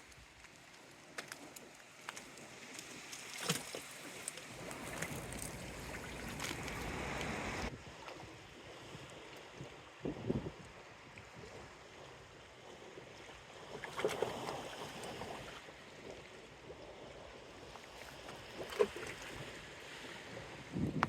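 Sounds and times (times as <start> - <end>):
small waves lapping at shore: 0.0 - 21.0
wind: 0.0 - 21.0.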